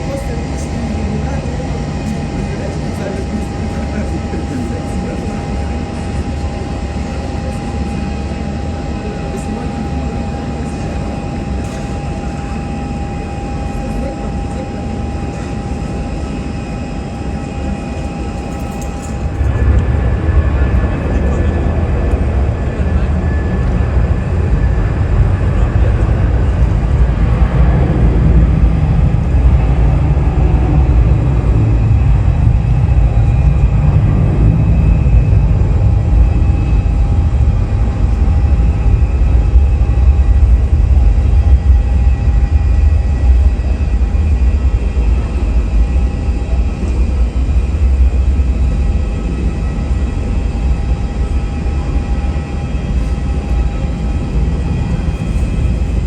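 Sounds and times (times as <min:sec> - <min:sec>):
faint engine whines: 0:00.0 - 0:56.0
jet engines rumbling: 0:00.0 - 0:56.0.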